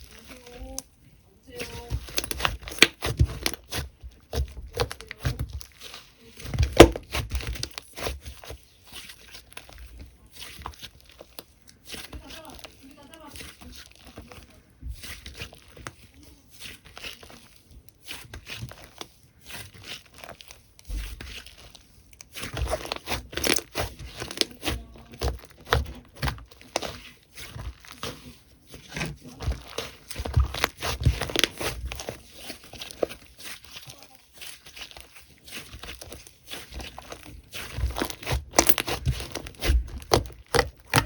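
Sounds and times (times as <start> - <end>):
slime crackling and popping: 1.5 - 41.0.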